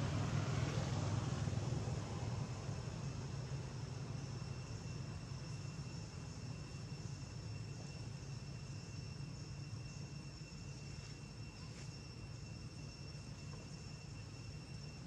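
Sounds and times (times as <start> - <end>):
cricket-like insect drone: 0.0 - 15.0.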